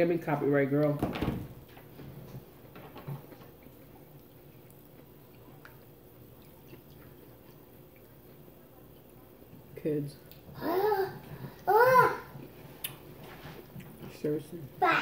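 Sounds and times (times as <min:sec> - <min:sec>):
soft chewing: 0:01.7 - 0:14.6.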